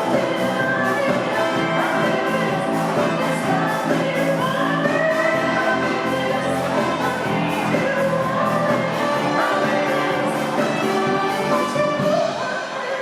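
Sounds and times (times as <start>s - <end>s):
voices singing along: 0.0s - 13.0s.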